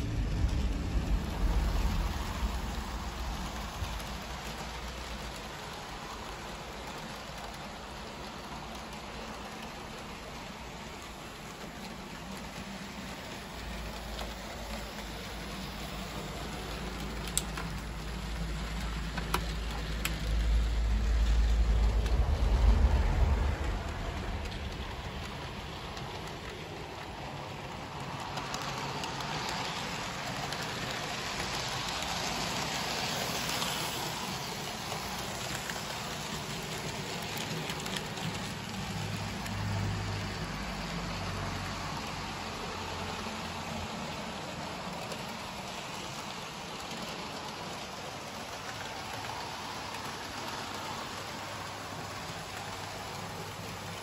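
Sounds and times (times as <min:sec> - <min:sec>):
model train wheels whirring on rail: 0:00.0 - 0:54.0.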